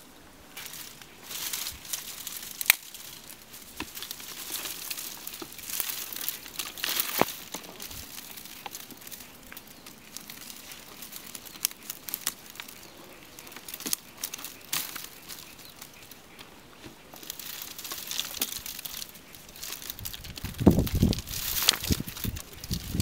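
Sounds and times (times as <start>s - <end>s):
dry grass rustling and crackling: 0.0s - 23.0s
stems snapping: 0.6s - 23.0s.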